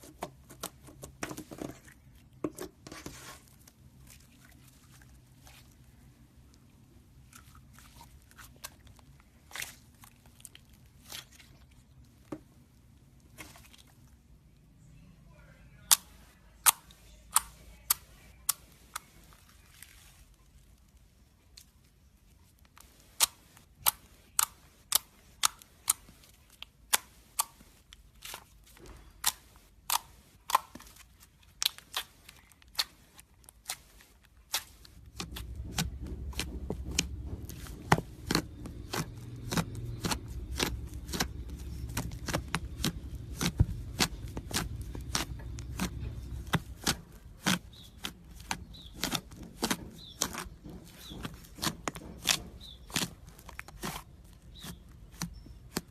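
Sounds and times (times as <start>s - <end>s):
low squishing noise: 0.0s - 14.7s, 15.3s - 55.9s.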